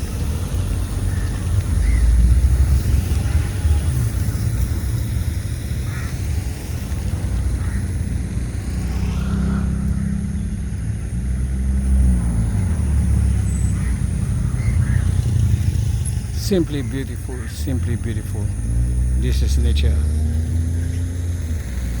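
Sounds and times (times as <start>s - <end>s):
passing traffic engine rumble: 0.0s - 22.0s.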